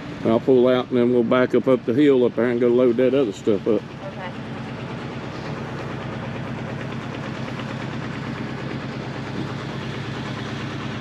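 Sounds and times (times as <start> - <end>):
vehicle engine droning steadily: 0.0 - 11.0.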